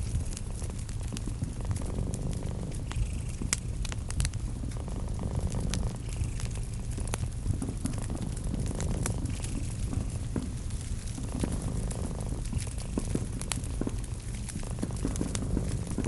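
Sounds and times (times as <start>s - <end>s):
cat purring: 0.0s - 16.0s
wood fire crackling and popping: 0.0s - 16.0s.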